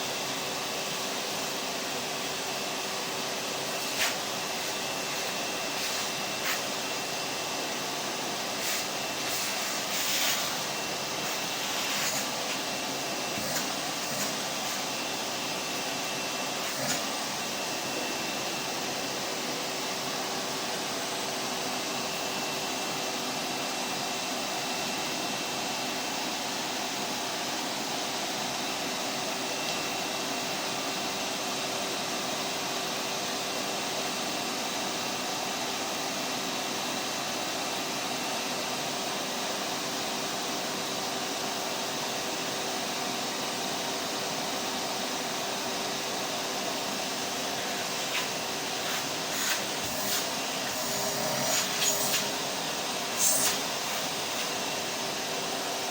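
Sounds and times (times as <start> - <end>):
vacuum cleaner motor running: 0.0 - 55.9.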